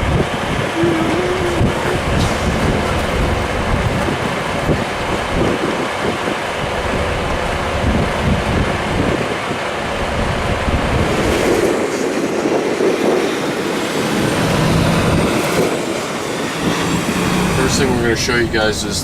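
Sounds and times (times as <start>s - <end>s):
truck cab road rumble: 0.0s - 19.0s.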